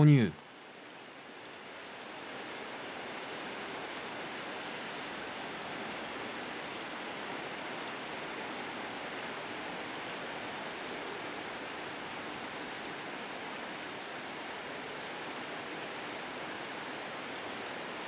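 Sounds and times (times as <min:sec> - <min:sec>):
flowing stream water: 0:00.4 - 0:18.0.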